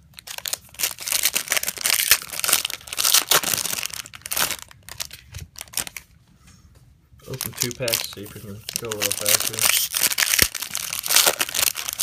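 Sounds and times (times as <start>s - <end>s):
wrappers crinkling and tearing: 0.2s - 6.0s, 7.3s - 12.0s.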